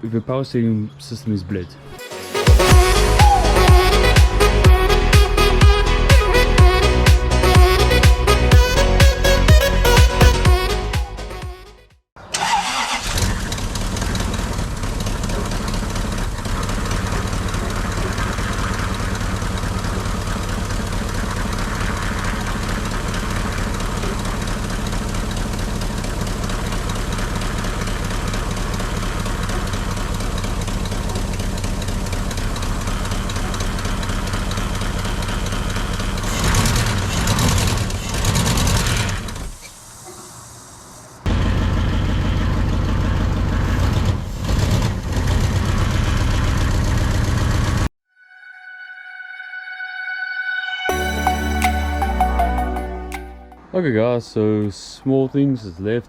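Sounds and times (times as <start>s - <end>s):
car engine starting and idling: 2.0s - 11.4s, 12.2s - 47.9s.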